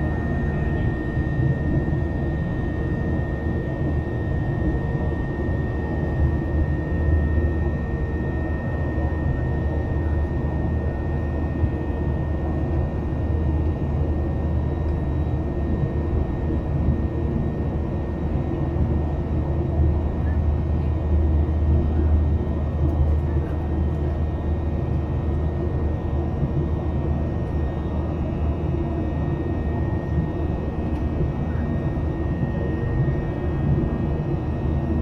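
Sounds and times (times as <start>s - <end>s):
jet engine drone in cabin: 0.0s - 35.0s.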